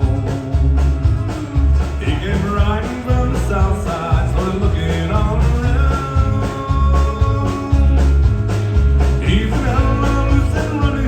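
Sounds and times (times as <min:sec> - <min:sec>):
country band playing: 0:00.0 - 0:11.0.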